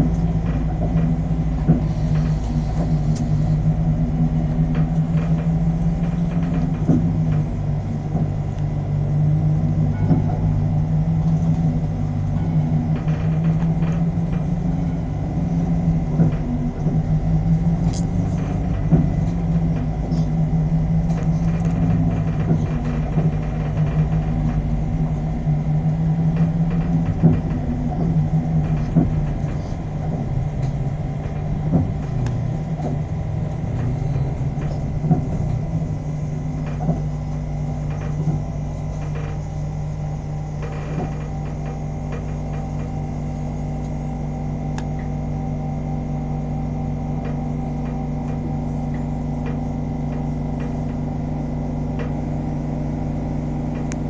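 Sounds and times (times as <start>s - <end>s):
electric bus hum: 0.0s - 54.0s
low rumble: 0.0s - 54.0s.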